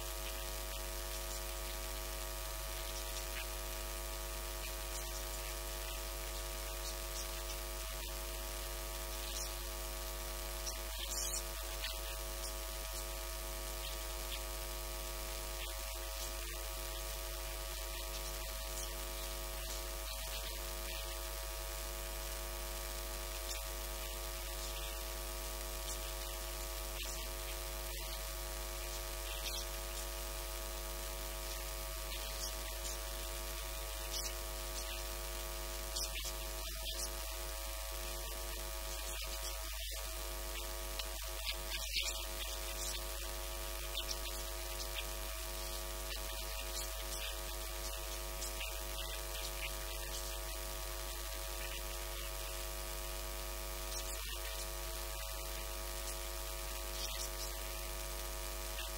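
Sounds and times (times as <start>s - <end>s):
electrical mains hum: 0.0s - 58.9s
recording hiss: 0.0s - 58.9s.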